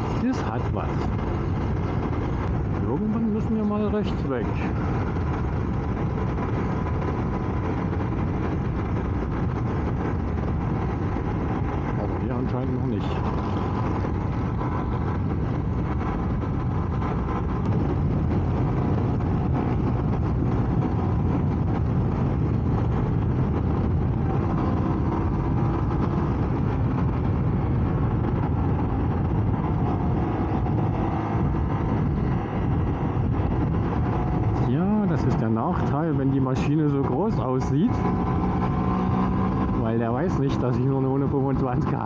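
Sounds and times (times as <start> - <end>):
motorcycle engine running: 0.0 - 35.0, 36.8 - 42.0
wind rush on microphone: 0.0 - 42.0.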